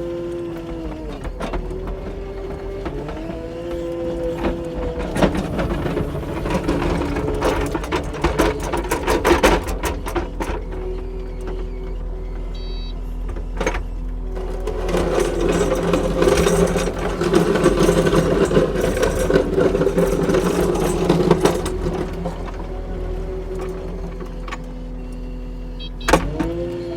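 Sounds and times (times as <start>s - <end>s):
diesel engine running: 0.0s - 26.9s
clatter of clicks and knocks: 0.1s - 12.0s, 13.2s - 24.8s.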